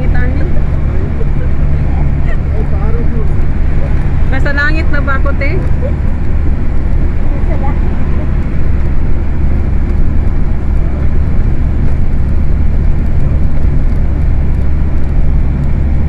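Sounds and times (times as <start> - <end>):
road and engine rumble in vehicle: 0.0 - 16.0.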